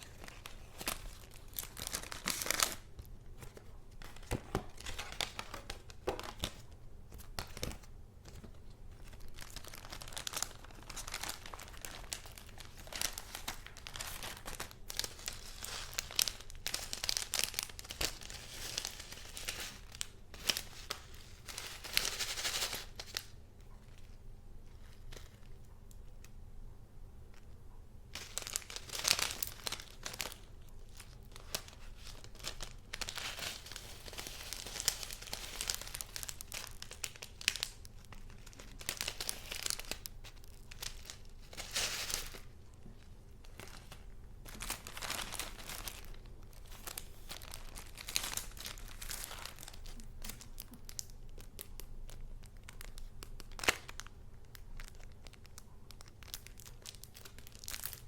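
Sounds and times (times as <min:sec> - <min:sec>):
paper crinkling and rustling: 0:00.0 - 0:25.8, 0:28.2 - 0:58.0.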